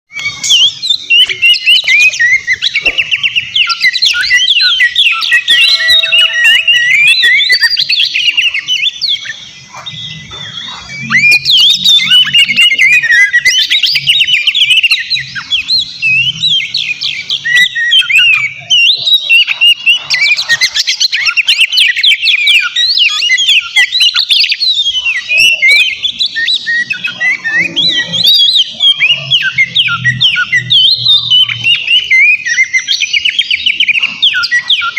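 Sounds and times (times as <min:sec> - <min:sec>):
bird singing whistles and trills: 0:00.1 - 0:34.9.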